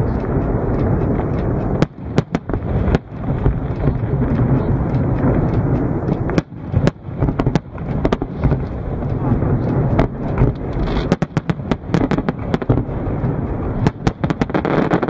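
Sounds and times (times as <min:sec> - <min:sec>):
fireworks bursting: 0:00.0 - 0:15.0
noisy background: 0:00.0 - 0:15.0.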